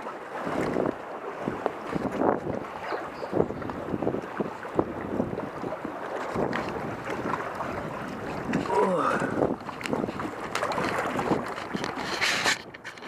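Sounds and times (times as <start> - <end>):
waves splashing against concrete: 0.0 - 13.0
wind on microphone: 0.4 - 13.0.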